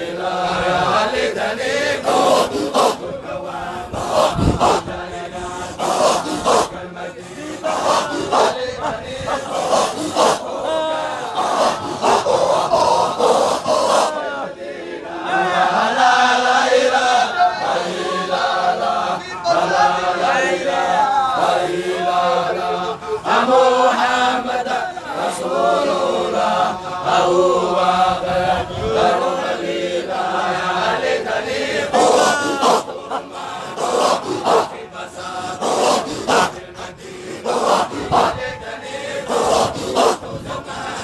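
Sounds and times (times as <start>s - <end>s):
group of voices chanting: 0.0s - 41.0s.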